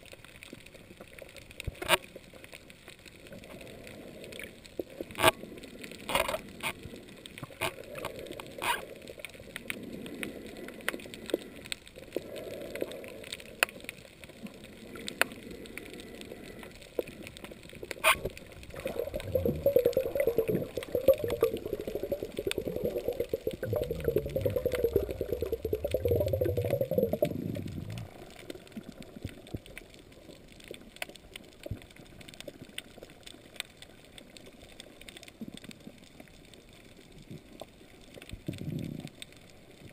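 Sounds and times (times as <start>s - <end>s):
dense crackling rumble: 0.0s - 39.9s
sharp underwater clicks and cracks: 0.0s - 39.9s
low underwater background: 0.2s - 39.9s.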